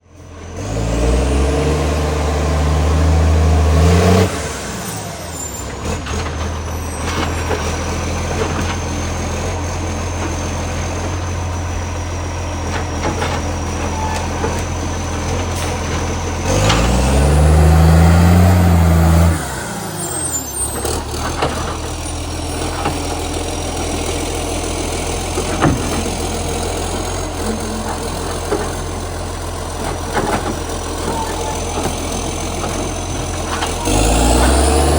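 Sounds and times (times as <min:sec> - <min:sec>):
diesel engine revving and idling: 0:00.0 - 0:34.9
high engine whine: 0:00.2 - 0:34.9.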